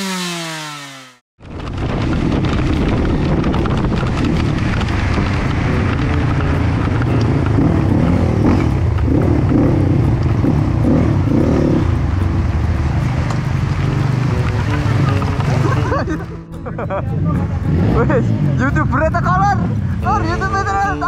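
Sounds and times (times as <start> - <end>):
dirt bike engine running: 0.0 - 20.9.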